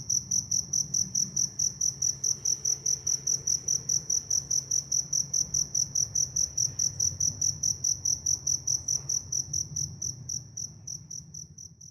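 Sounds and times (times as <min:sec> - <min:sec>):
cricket chirping: 0:00.0 - 0:11.9.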